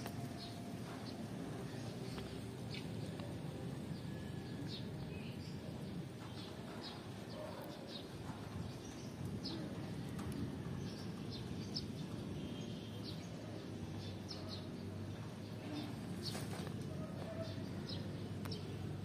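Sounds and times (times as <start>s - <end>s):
small birds chirping: 0.0s - 19.0s
steady low background noise: 0.0s - 19.0s.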